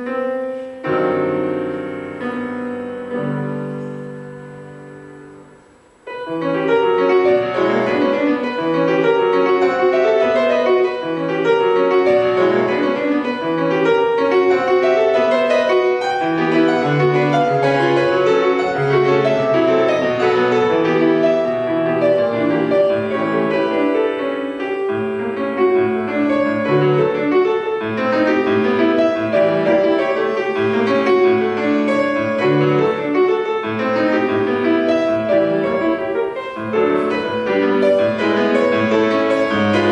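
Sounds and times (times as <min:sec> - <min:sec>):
solo piano classical music: 0:00.0 - 0:39.9.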